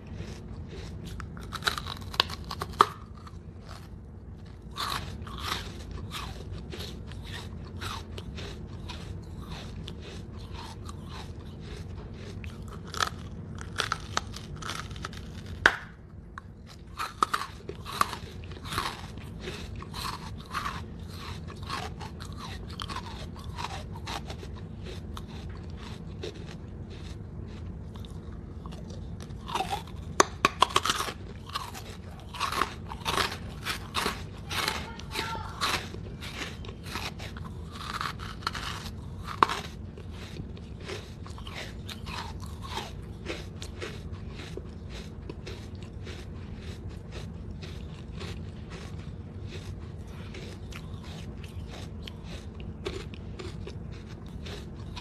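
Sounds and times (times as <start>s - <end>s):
chewing brick gritty crunches: 0.0s - 55.0s.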